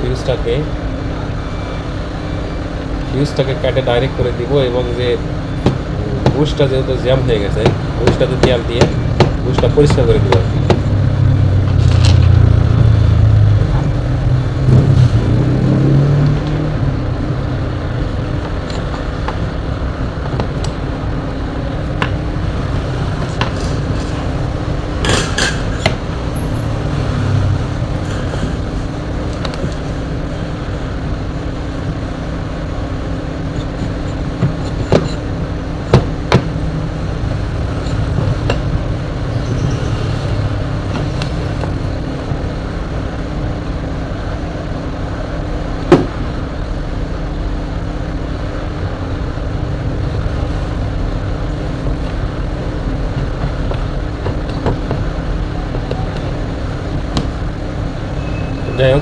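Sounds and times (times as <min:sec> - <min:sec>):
low background rumble: 0:00.0 - 0:58.8.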